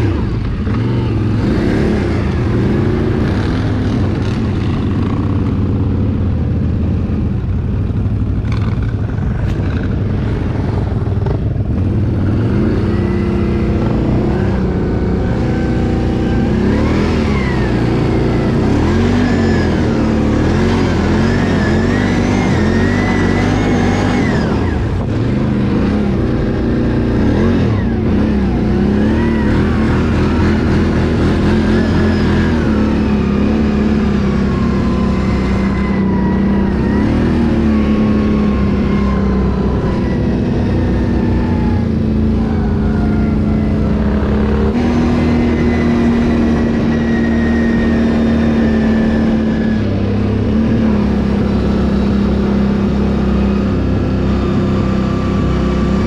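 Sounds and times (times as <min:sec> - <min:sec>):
atv engine revving: 0:00.0 - 0:56.0
high-pitched whine: 0:00.0 - 0:56.0.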